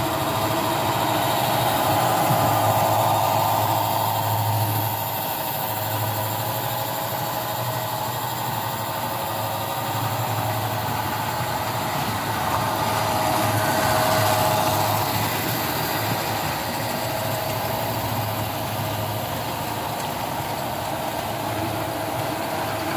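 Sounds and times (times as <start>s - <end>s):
model train motor hum: 0.0s - 22.9s.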